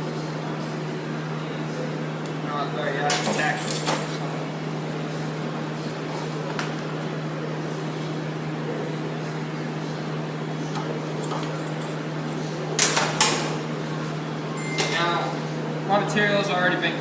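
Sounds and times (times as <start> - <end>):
machine hum with fan rush: 0.0 - 17.0.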